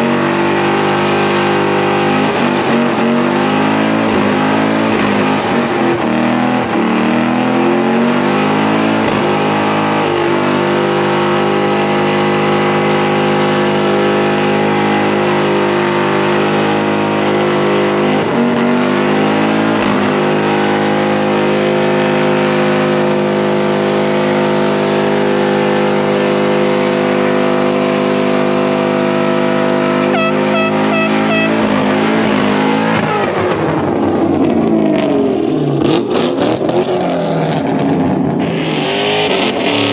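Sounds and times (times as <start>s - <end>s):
car engines running: 0.0s - 39.9s.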